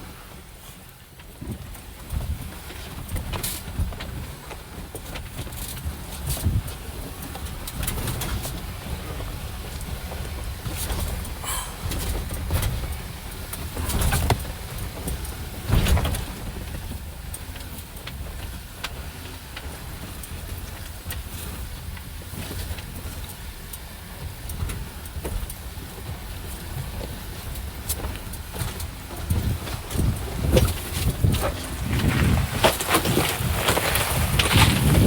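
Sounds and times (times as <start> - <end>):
vehicle low rumble: 0.0 - 35.0.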